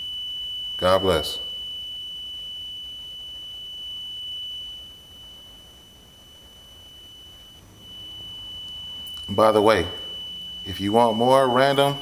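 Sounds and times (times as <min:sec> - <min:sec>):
smoke detector high-pitched tone: 0:00.0 - 0:12.0.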